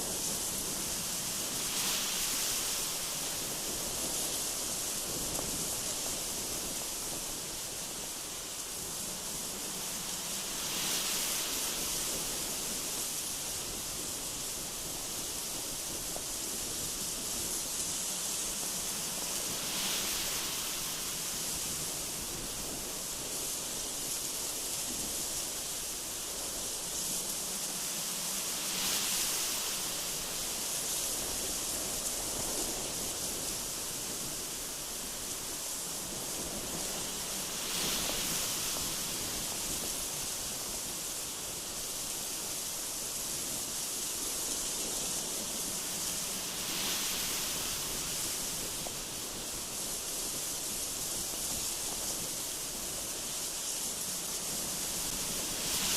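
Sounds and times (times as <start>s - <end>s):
strong gusty wind: 0.0s - 55.9s.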